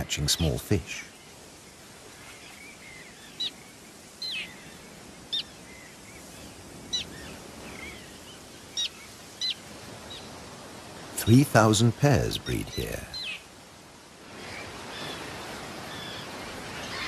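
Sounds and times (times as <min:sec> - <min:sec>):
faint outdoor hiss: 0:00.0 - 0:17.0
terns calling: 0:00.0 - 0:17.0.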